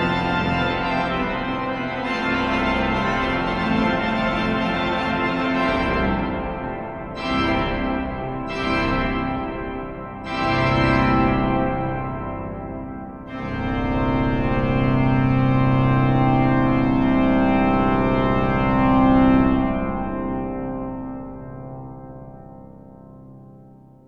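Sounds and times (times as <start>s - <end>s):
pipe organ chords echoing: 0.0s - 22.8s.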